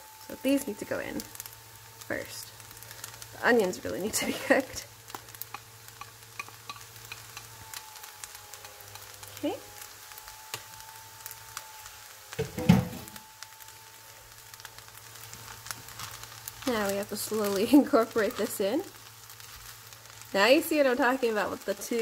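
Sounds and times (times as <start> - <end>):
rice sizzling in a pan: 0.0 - 22.0.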